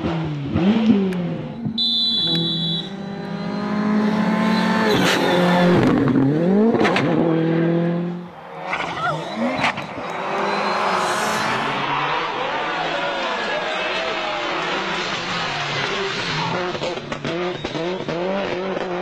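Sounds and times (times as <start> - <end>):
rally car engines at high revs: 0.0 - 19.0.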